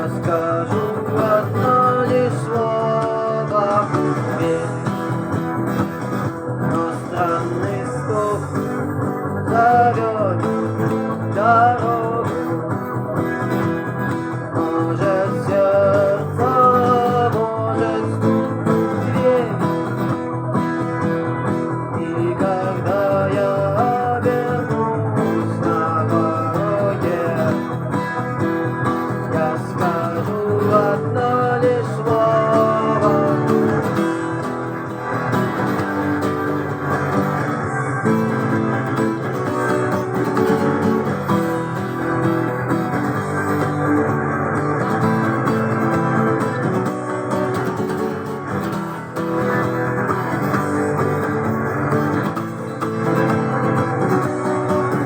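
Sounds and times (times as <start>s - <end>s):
electric guitar playing rock: 0.0s - 55.0s
recorded backing track: 0.0s - 55.0s.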